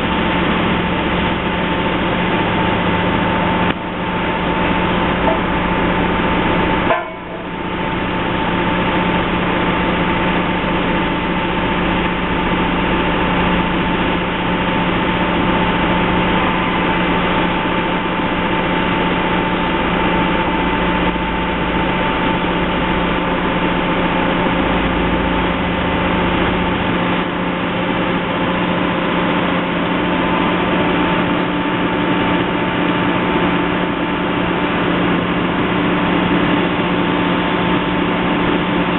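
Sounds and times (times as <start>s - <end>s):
construction machinery engine running: 0.0s - 38.9s.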